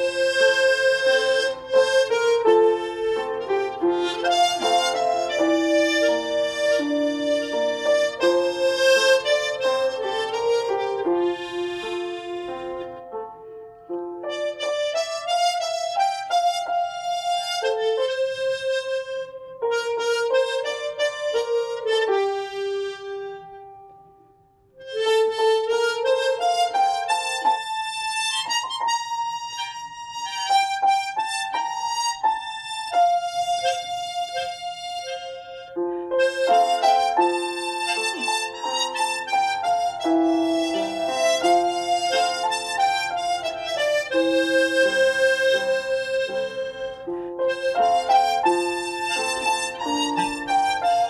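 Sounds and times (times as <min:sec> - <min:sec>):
harmonica slow melody: 0:00.0 - 0:51.0.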